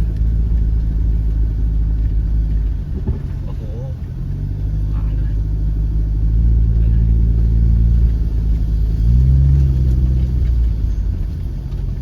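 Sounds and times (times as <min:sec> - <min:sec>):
car engine running: 0:00.0 - 0:12.0
low road rumble: 0:00.0 - 0:12.0.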